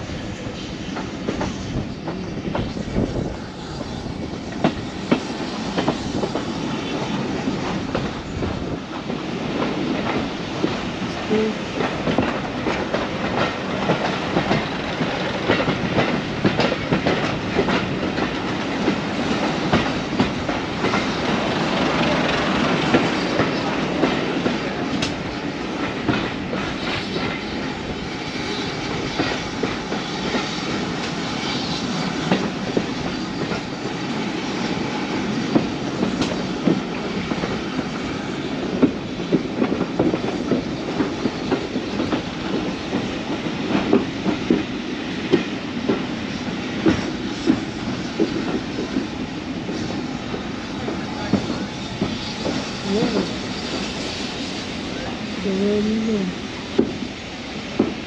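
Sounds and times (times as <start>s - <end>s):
train wheels clicking over rail joints: 0.5s - 55.8s, 56.6s - 58.0s.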